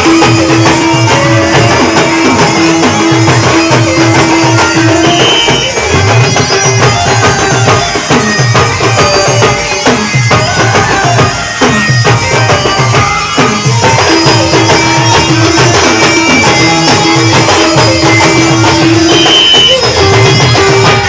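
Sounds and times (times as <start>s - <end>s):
folk band music: 0.0s - 21.0s
percussion rhythm: 0.0s - 21.0s.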